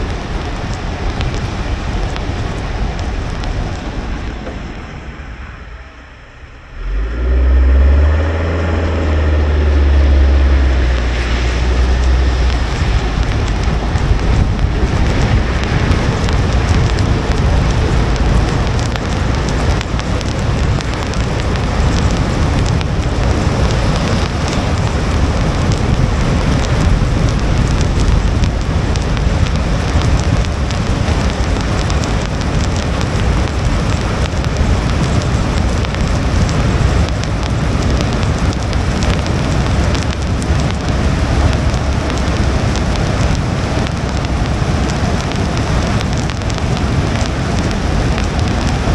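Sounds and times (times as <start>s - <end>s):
rain pattering on windshield: 0.0s - 6.0s, 6.7s - 48.9s
tyres rumbling on wet pavement: 0.0s - 48.9s.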